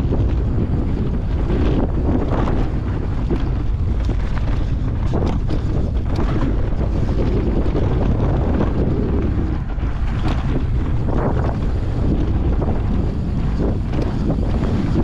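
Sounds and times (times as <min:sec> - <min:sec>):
bike rattling over bumps: 0:00.0 - 0:15.0
bike tyres rolling on dirt: 0:00.0 - 0:15.0
wind buffeting microphone: 0:00.0 - 0:15.0.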